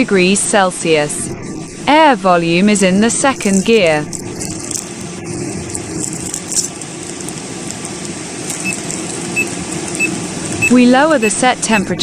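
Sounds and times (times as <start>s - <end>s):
air conditioner fan humming: 0.0s - 12.0s.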